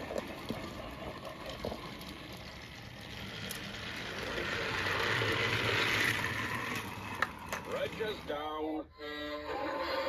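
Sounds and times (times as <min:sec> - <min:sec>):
toy train motor whirring: 0:00.0 - 0:10.0.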